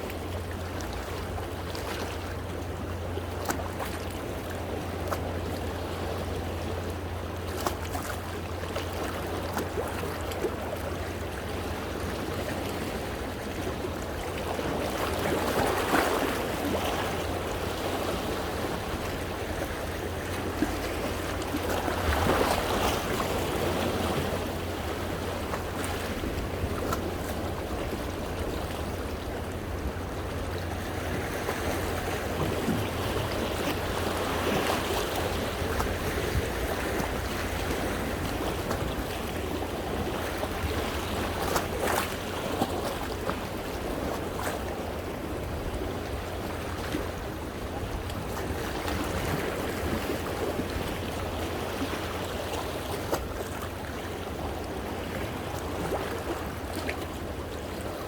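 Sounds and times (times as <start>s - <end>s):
sea waves washing against rocks: 0.0s - 58.0s
water splashes: 0.0s - 58.0s.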